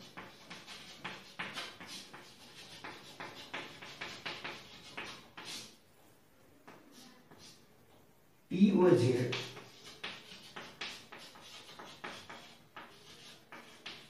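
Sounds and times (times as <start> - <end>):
chalk tapping and scratching on blackboard: 0.0 - 8.0, 9.1 - 14.0.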